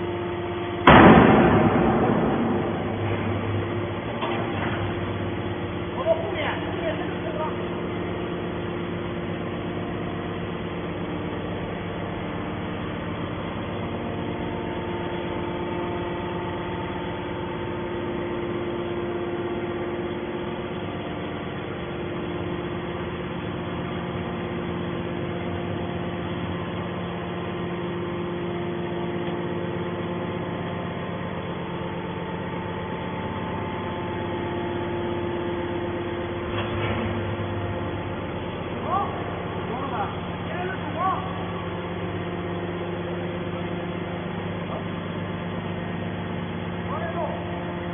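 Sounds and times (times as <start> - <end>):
hydraulic power unit humming: 0.0 - 47.9.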